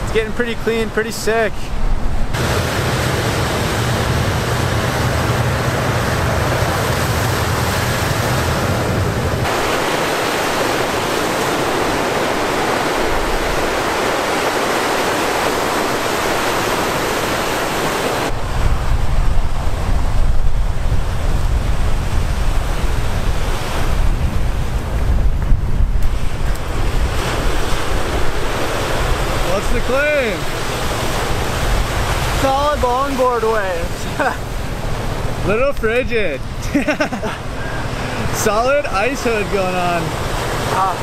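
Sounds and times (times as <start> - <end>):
lake surf breaking: 0.0 - 41.0
wind on microphone: 1.7 - 36.7.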